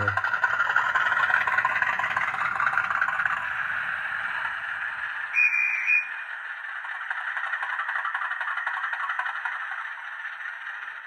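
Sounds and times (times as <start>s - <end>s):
model locomotive engine sound: 0.0s - 11.0s.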